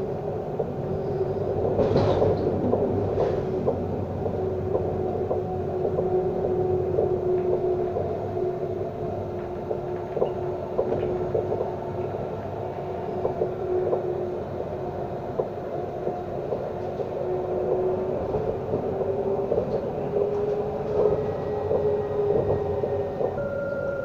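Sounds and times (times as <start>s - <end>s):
tram electric whine: 0.0s - 24.0s
tram running noise: 0.0s - 24.0s.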